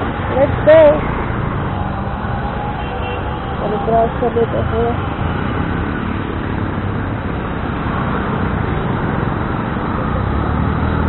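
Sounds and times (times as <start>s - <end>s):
surrounding traffic: 0.0s - 11.0s
wind: 0.0s - 11.0s.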